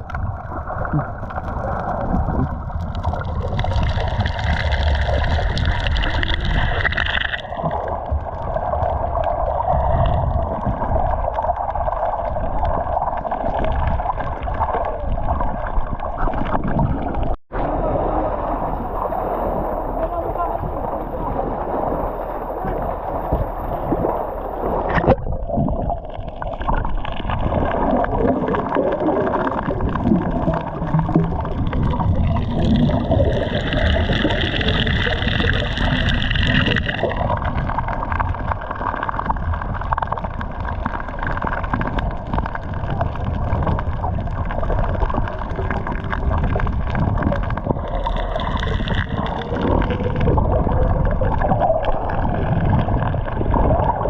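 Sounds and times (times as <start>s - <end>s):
sea water sloshing and gurgling: 0.0s - 54.0s.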